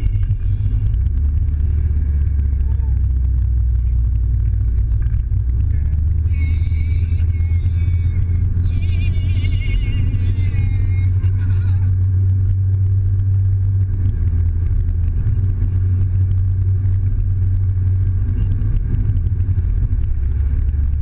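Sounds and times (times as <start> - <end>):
car cabin engine and road drone: 0.0 - 21.0.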